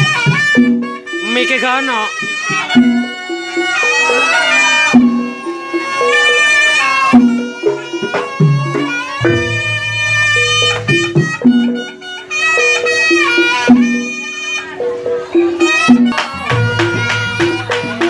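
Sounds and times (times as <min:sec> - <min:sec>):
double-reed trumpet melody: 0:00.0 - 0:18.0
gamelan accompaniment: 0:00.0 - 0:18.0.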